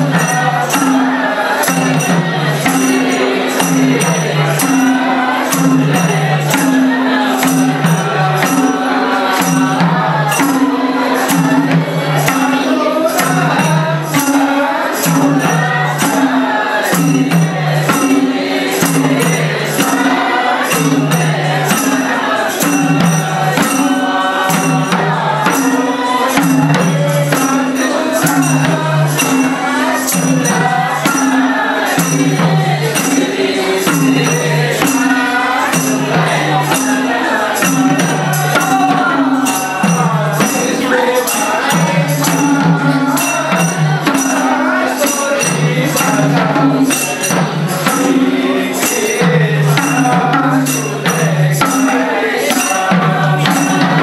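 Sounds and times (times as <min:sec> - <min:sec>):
hand drums beating: 0:00.0 - 0:54.0
jingling frame drums: 0:00.0 - 0:54.0
men singing: 0:00.0 - 0:54.0.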